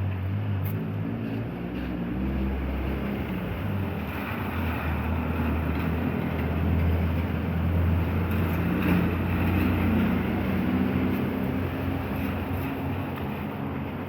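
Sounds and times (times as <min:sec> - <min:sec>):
street noise hiss: 0:00.0 - 0:14.0.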